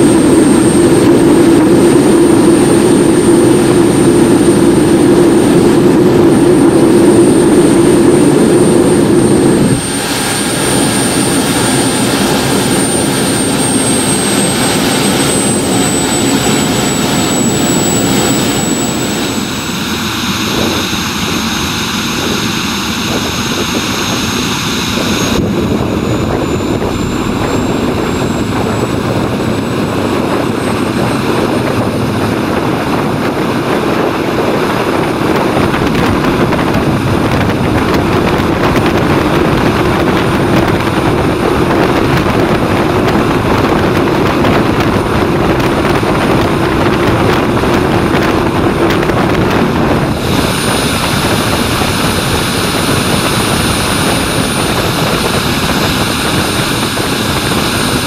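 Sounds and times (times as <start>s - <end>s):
high-pitched turbine whine: 0.0s - 58.0s
jet roar: 0.0s - 58.0s.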